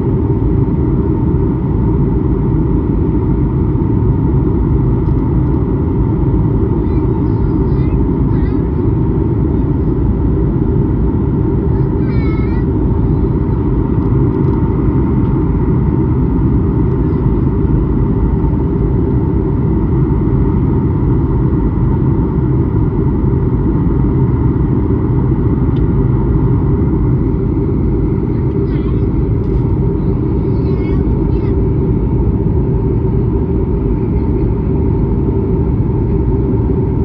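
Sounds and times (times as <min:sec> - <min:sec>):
airliner cabin rumble: 0:00.0 - 0:37.0
faint steady hum: 0:00.0 - 0:37.0.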